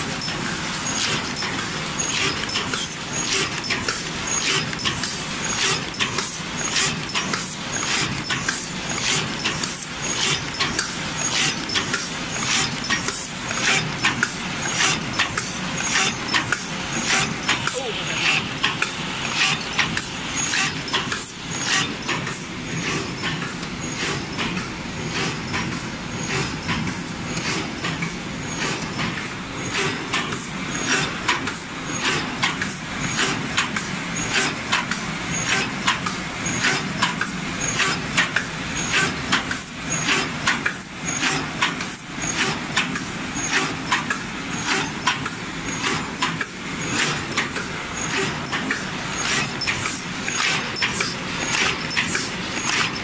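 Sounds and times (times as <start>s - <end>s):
machine clattering with sharp clacks: 0.0s - 53.0s.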